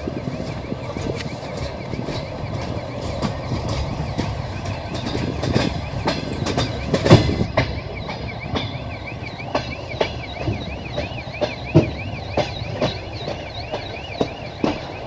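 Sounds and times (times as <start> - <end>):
train rumble: 0.0 - 15.0
train wheels clicking over rail joints: 0.0 - 15.0.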